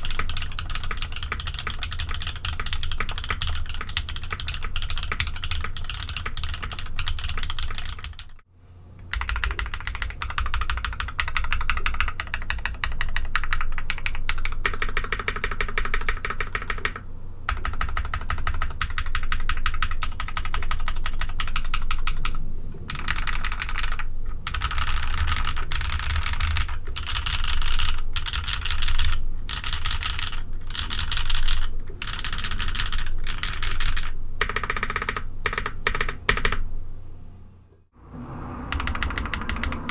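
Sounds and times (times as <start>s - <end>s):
fast typing on mechanical keyboard: 0.0s - 8.4s, 9.1s - 36.6s, 38.7s - 39.9s.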